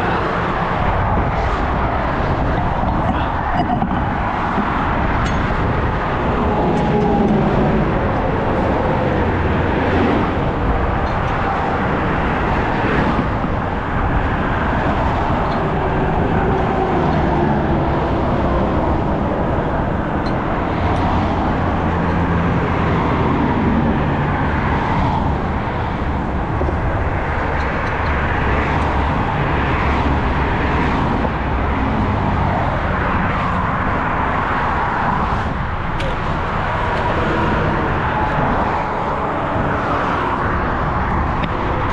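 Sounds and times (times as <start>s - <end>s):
vehicle road noise: 0.0s - 41.9s.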